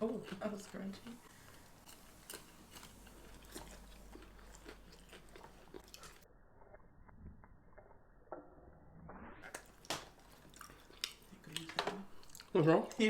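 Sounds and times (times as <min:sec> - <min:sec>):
crunching and chewing: 0:00.0 - 0:08.4, 0:09.4 - 0:13.0.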